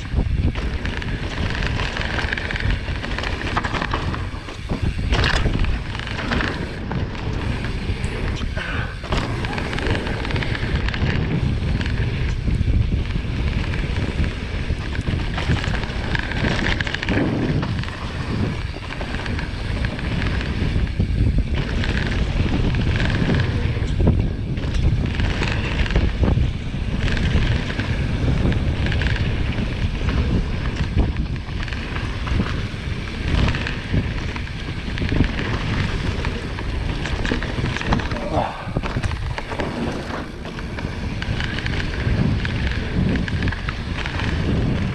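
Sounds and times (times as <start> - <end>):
bike knocking over bumps: 0.0 - 44.9
tyre and trail noise: 0.0 - 44.9
wind buffeting microphone: 0.0 - 44.9.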